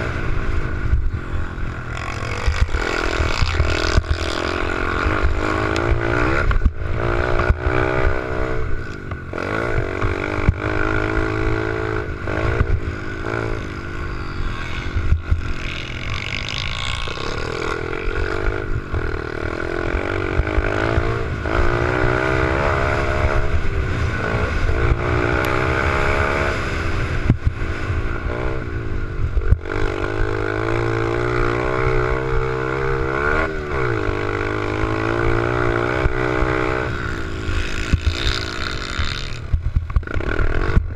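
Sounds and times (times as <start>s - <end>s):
small motorbike engine revving: 0.0s - 40.9s.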